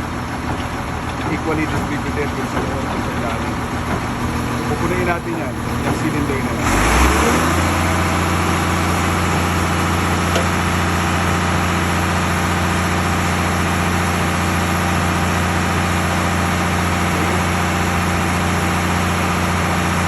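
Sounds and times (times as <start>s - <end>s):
heavy diesel machinery droning: 0.0s - 20.0s.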